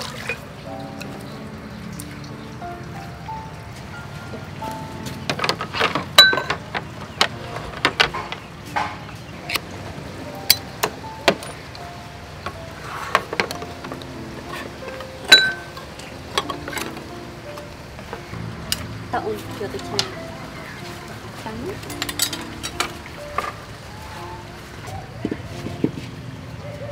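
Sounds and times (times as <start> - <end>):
soft background music: 0.0 - 26.9.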